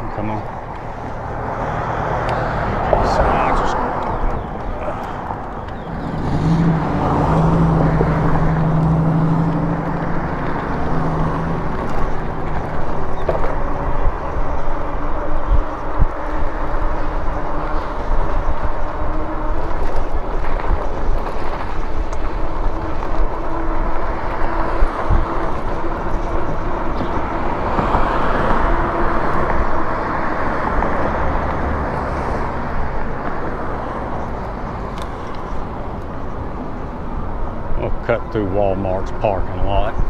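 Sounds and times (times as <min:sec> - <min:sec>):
road noise: 0:00.0 - 0:40.0
wind buffeting microphone: 0:00.0 - 0:40.0.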